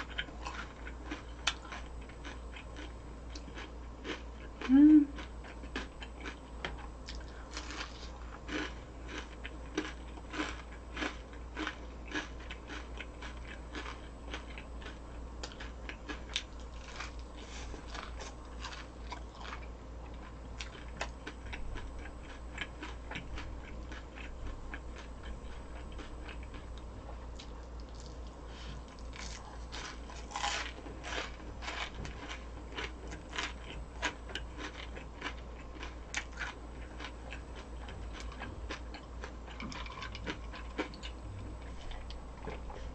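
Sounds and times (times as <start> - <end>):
chewing crunchy fried food: 0.0 - 42.9.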